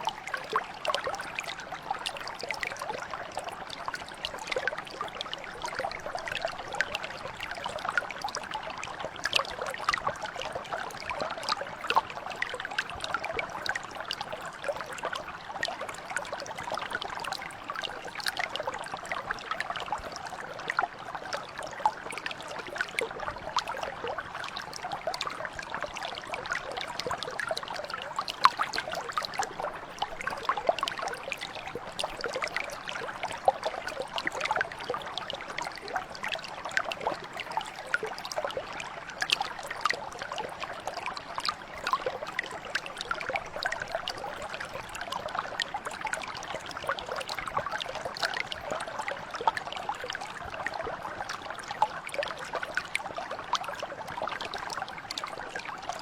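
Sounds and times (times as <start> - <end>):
brook flowing over stones: 0.0 - 56.0.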